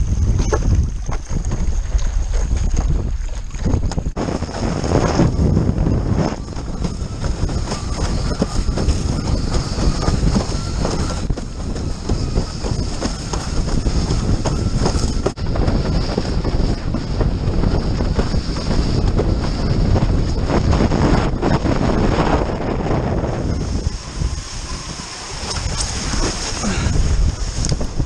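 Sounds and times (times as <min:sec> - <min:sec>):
board rumbling over choppy water: 0:00.0 - 0:28.0
wind buffeting microphone: 0:00.0 - 0:28.0.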